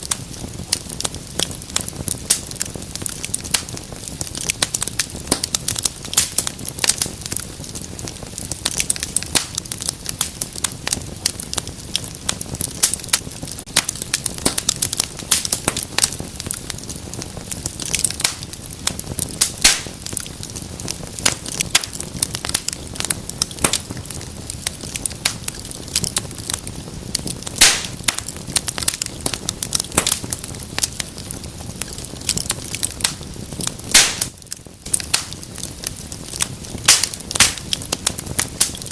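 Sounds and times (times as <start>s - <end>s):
flames rumbling and hissing: 0.0s - 38.9s
wood fire crackling and popping: 0.0s - 38.9s.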